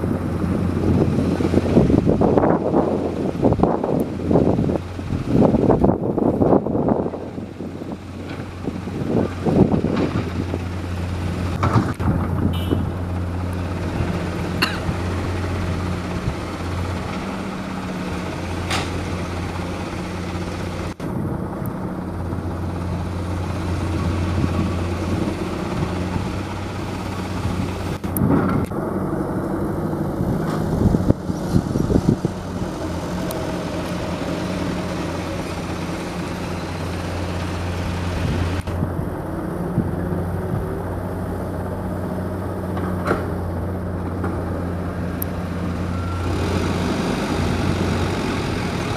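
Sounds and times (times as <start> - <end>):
heavy diesel engines droning: 0.0 - 48.9.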